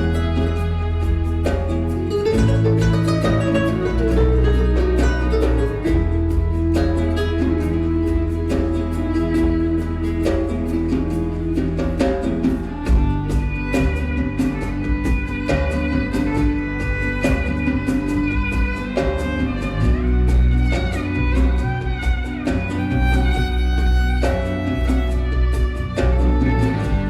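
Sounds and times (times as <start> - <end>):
electric bass: 0.0 - 27.0
nylon-string guitar: 0.0 - 27.0
percussion: 0.0 - 27.0
violin melody: 0.0 - 27.0.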